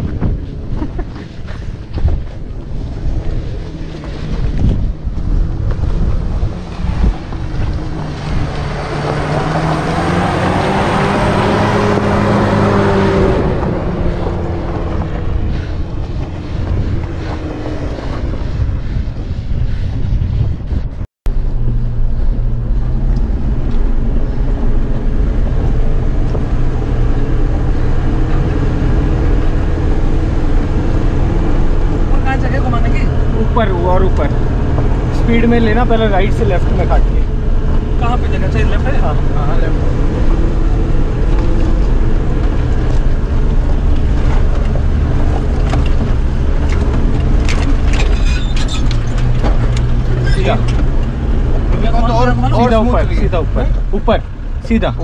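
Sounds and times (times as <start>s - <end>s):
diesel engine revving: 0.0s - 19.4s, 21.3s - 55.0s
wind on microphone: 0.0s - 54.6s.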